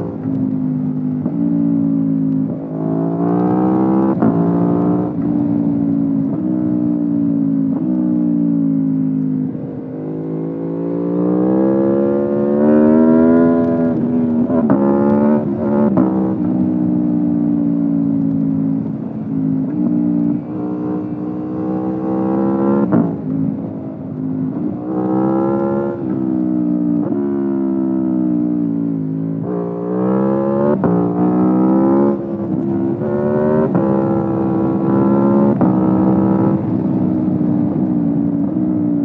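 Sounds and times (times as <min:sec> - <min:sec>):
motorcycle engine revving and shifting: 0:00.0 - 0:39.0.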